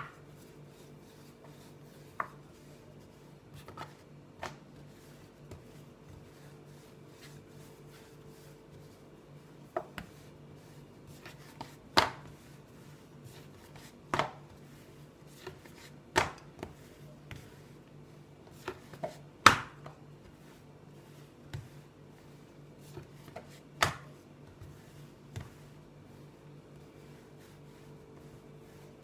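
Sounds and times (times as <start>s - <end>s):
rolling pin scraping dough: 0.0s - 29.0s.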